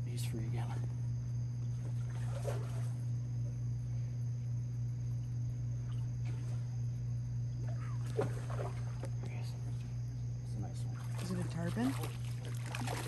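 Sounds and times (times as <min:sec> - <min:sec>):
insects chirring: 0:00.0 - 0:13.0
low hum: 0:00.0 - 0:13.0.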